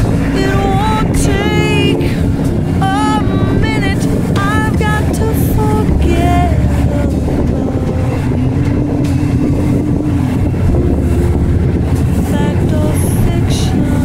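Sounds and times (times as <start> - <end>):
boat engine rumbling: 0.0 - 14.0
water churning: 0.0 - 14.0.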